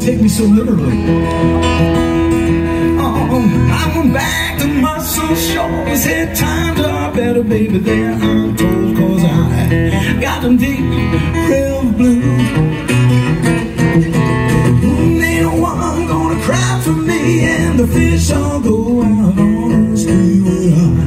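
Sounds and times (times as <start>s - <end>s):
bass line: 0.0s - 21.0s
fingerpicked acoustic guitar: 0.0s - 21.0s.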